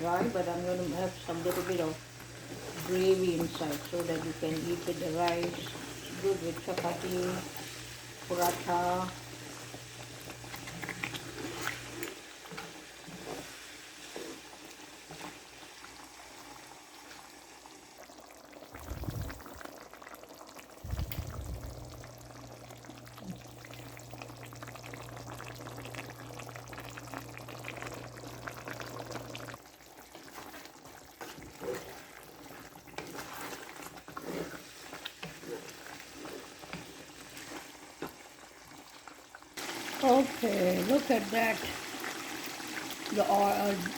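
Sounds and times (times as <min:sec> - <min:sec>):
chicken sizzling in a pan: 0:00.0 - 0:18.2, 0:20.8 - 0:43.9.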